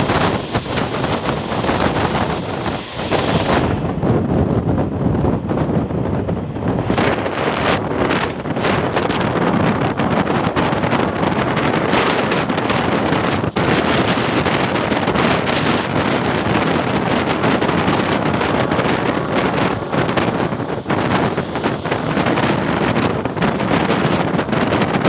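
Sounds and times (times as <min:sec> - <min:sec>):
train coach running noise: 0:00.0 - 0:25.0
wind buffeting microphone: 0:00.0 - 0:25.0.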